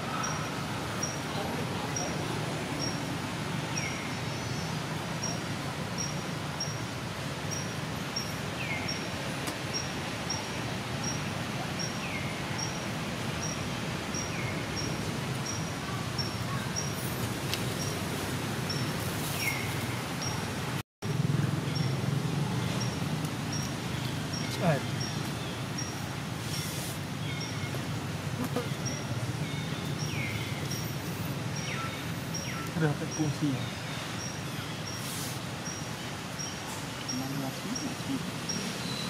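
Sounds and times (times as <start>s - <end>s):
forest ambience hiss: 0.0s - 39.0s.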